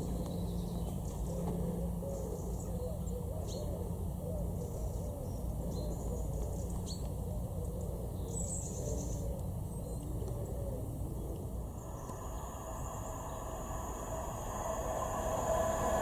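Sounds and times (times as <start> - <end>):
low curved bird calls: 0.0 - 16.0
low steady rumble: 0.0 - 16.0.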